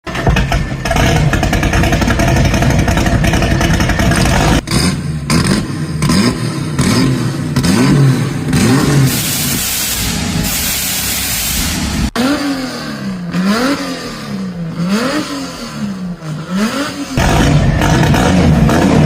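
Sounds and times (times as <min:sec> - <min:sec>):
car engine rumbling and revving: 0:00.0 - 0:19.0.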